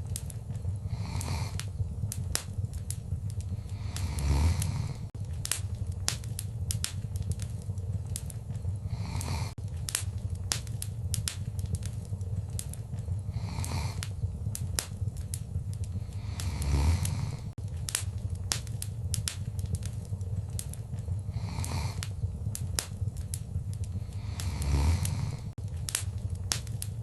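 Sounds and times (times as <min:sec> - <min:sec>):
low rumble of flames: 0:00.0 - 0:27.0
rush of fire: 0:00.0 - 0:27.0
wood fire crackling and popping: 0:00.0 - 0:27.0.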